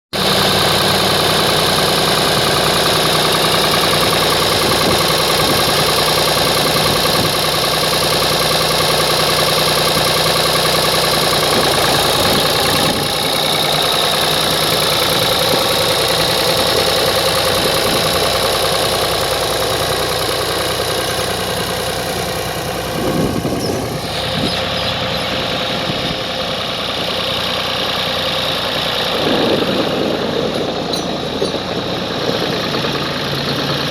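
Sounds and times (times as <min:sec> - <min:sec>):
diesel tractor engine running: 0:00.1 - 0:33.9.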